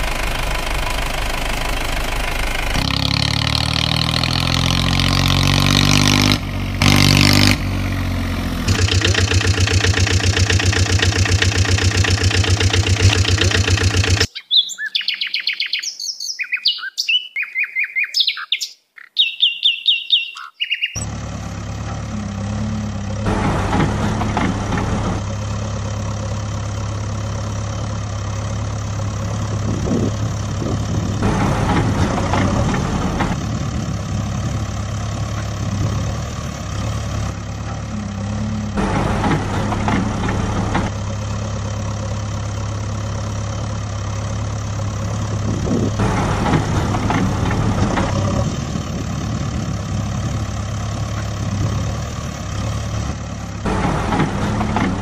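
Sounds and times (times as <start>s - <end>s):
heavy machine engine idling: 0.0s - 4.5s, 6.5s - 14.3s, 21.0s - 55.0s.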